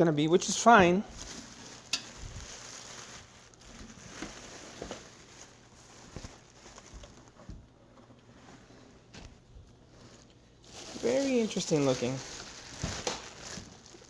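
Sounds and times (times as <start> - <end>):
packaging rustling: 0.4 - 14.0.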